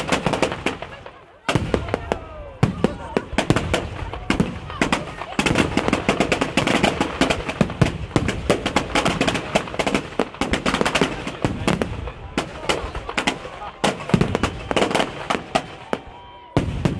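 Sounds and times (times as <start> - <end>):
fireworks bangs and crackling: 0.0 - 16.9.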